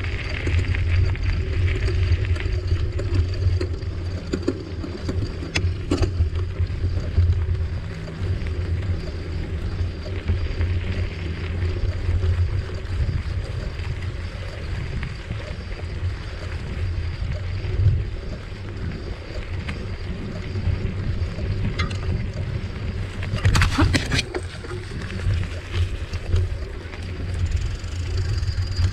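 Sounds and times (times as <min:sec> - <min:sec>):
bicycle tyres rolling on trail: 0:00.0 - 0:28.9
wind rumbling over microphone: 0:00.0 - 0:28.9.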